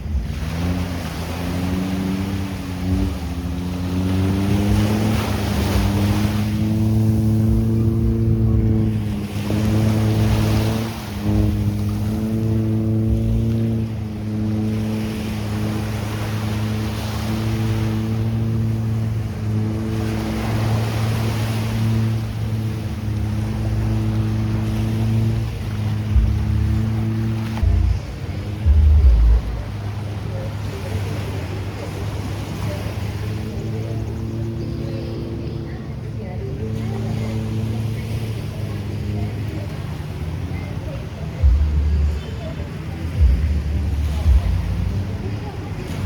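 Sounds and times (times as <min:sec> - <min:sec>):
motorboat engine: 0:00.0 - 0:46.0
waves washing onto beach: 0:00.0 - 0:46.0.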